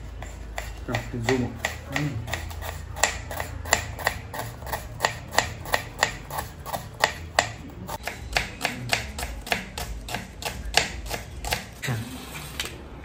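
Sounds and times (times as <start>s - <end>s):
knife chopping on wooden board: 0.1s - 11.8s.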